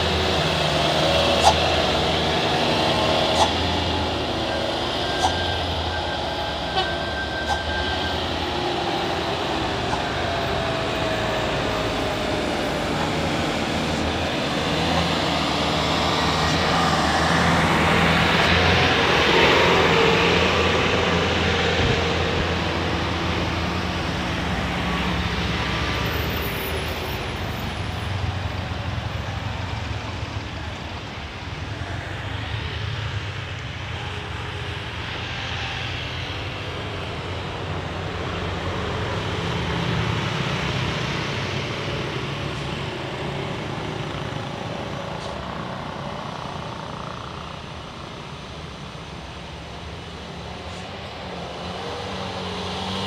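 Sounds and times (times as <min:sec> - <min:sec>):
diesel truck engines droning: 0:00.0 - 0:53.0
passing road traffic: 0:00.0 - 0:53.0.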